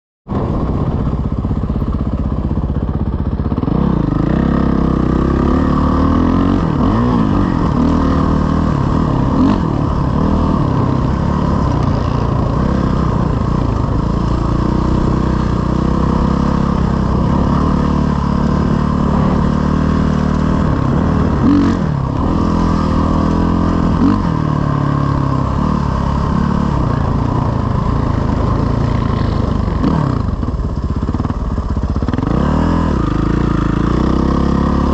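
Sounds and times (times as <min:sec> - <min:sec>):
dirt bike engine revving: 0:03.5 - 0:34.9.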